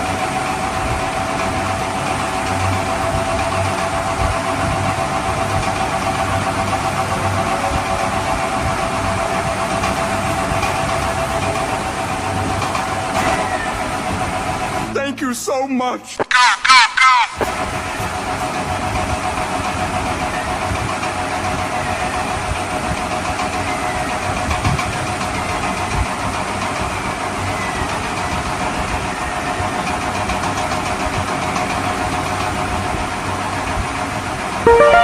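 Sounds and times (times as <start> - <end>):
engine running with faint hum: 0.0 - 14.9, 17.5 - 34.6.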